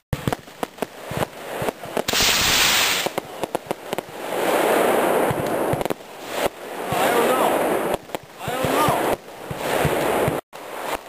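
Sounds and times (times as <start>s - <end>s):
crackles and pops: 0.1s - 11.0s
firework rocket hissing rush: 0.2s - 11.0s.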